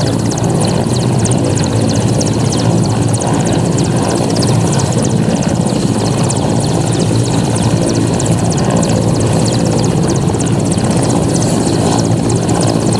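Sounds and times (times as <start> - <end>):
helicopter rotor and engine: 0.0 - 12.9.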